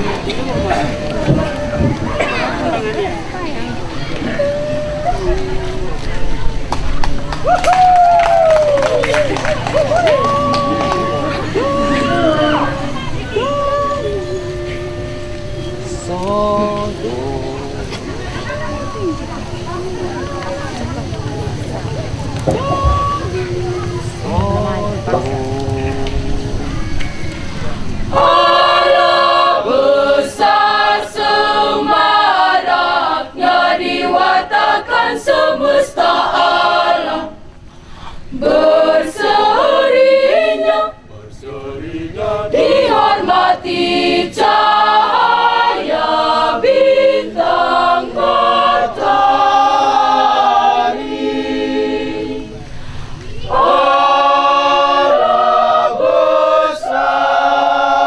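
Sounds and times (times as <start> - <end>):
mixed choir singing a cappella: 0.0 - 6.1, 9.3 - 27.0, 27.6 - 58.0.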